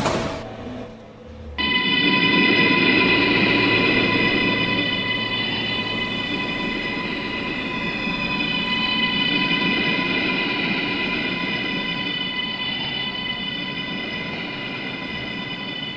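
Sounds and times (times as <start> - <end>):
high-pitched train whine: 0.0 - 15.9
wheels rumbling on track: 0.0 - 15.9.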